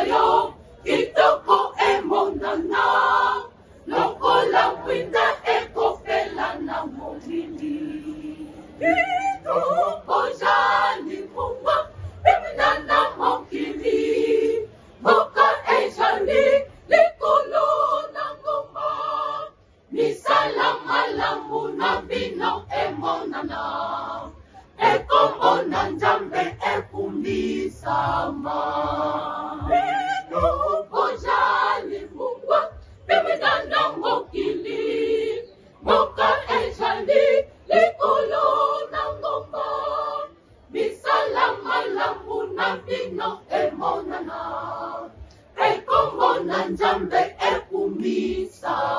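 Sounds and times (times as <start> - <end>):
mixed choir singing: 0.0 - 48.9.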